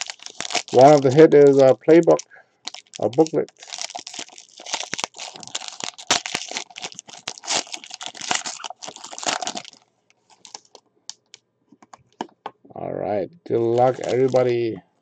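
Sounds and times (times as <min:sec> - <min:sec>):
foil wrapper crinkling and tearing: 0:00.0 - 0:11.4, 0:13.6 - 0:14.6.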